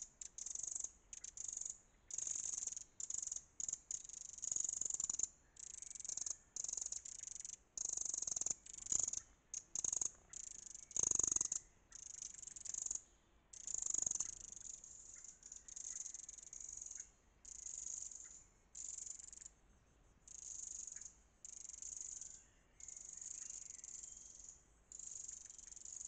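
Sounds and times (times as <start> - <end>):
wren alarm call: 0.0 - 19.6, 20.3 - 26.0.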